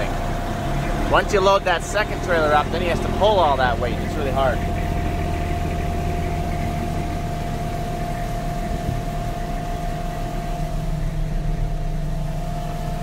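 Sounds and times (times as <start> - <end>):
steady whine: 0.0 - 13.0
tractor engine idling: 0.0 - 13.0.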